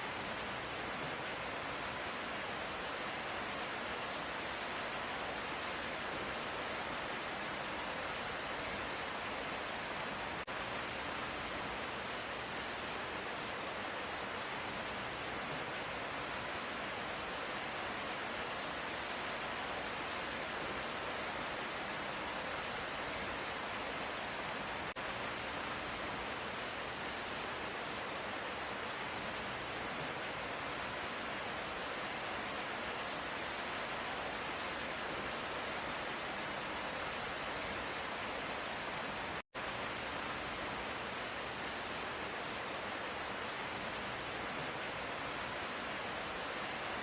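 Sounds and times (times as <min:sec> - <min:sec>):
light rain falling: 0:00.0 - 0:47.0.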